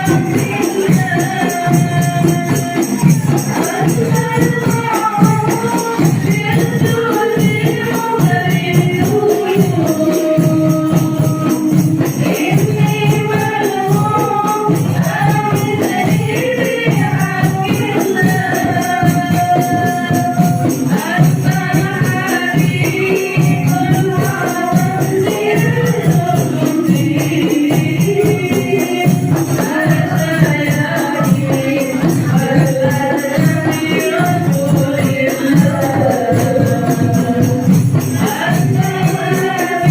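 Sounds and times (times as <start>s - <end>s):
frame drums with jingles: 0.0s - 39.9s
voices singing: 0.0s - 39.9s.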